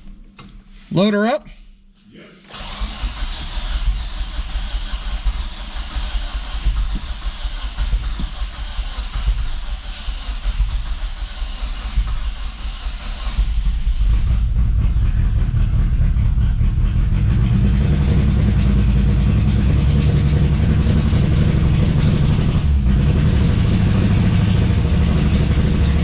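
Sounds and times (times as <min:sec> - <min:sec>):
car engine running with misfire: 0:02.4 - 0:26.0.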